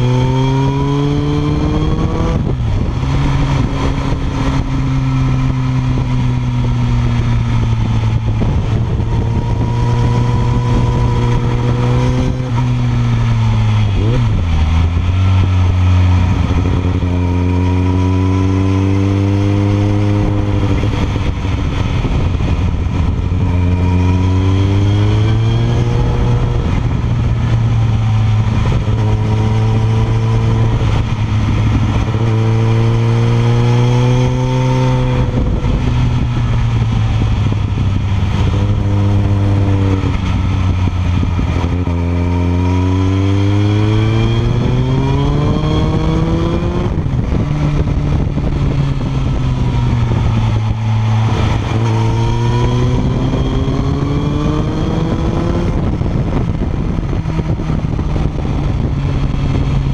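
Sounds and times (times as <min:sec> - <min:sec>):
motorcycle exhaust accelerating: 0:00.0 - 0:59.9.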